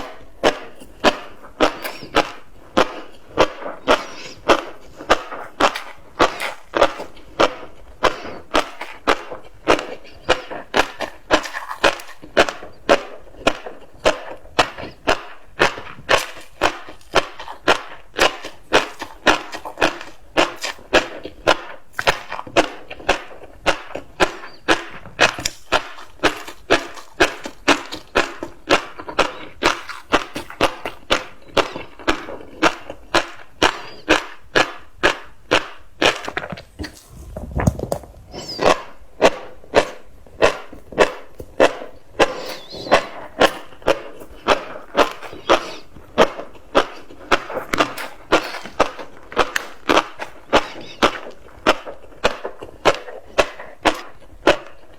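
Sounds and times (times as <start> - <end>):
fish roe crunching and popping: 0.0 - 54.9.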